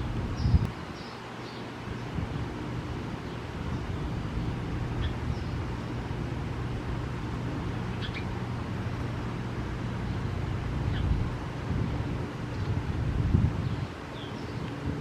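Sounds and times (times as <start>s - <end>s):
steady low rumble: 0.0s - 0.9s, 1.9s - 15.0s.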